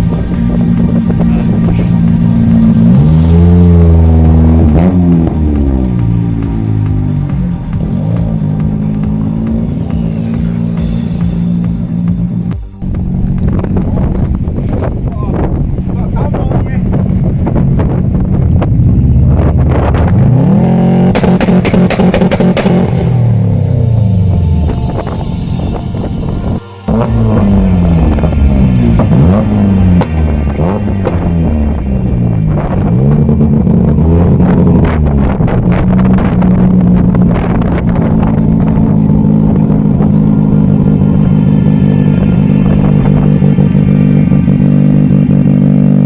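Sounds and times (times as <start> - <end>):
car engine revving: 0.0 - 46.0
exhaust crackles: 0.0 - 46.0.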